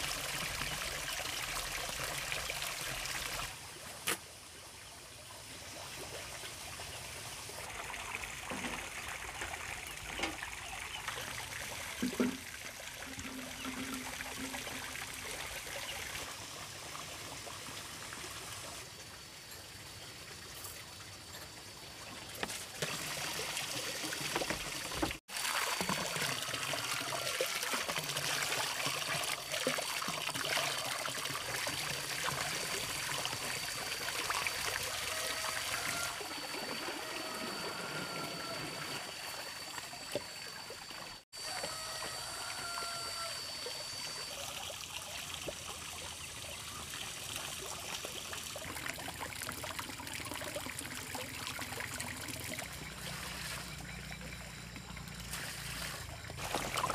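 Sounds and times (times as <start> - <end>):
water running and trickling: 0.0 - 3.6, 5.4 - 56.9.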